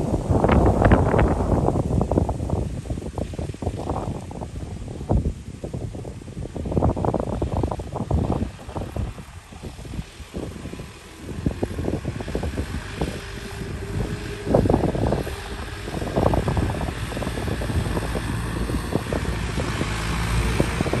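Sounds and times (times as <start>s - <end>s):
tractor engine running: 0.0s - 21.0s
wind buffeting microphone: 0.0s - 21.0s.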